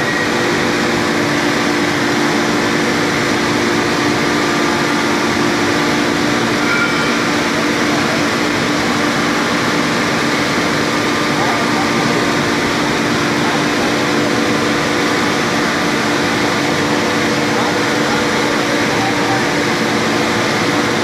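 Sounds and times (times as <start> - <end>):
furnace burners roaring: 0.0 - 21.0.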